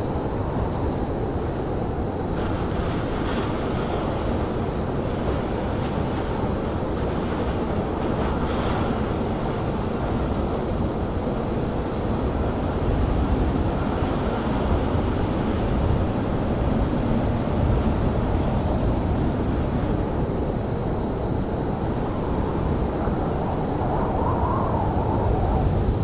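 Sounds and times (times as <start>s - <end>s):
rail traffic rumble: 0.0s - 26.0s.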